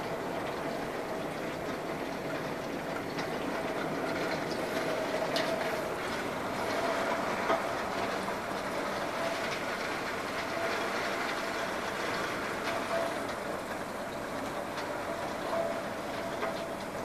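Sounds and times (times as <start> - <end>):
heavy rain against a window: 0.0 - 17.0.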